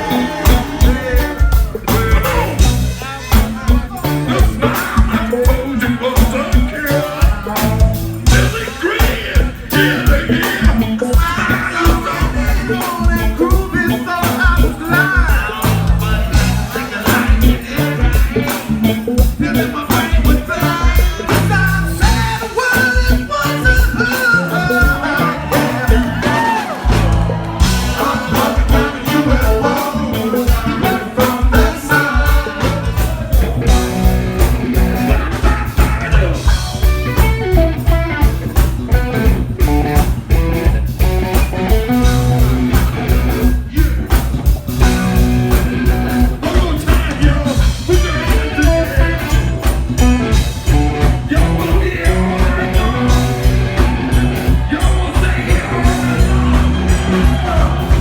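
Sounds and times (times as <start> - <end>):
person singing: 0.0 - 40.1, 41.3 - 58.0
driving drum beat: 0.0 - 58.0
electric guitar: 0.0 - 58.0
heavy bass: 0.0 - 58.0.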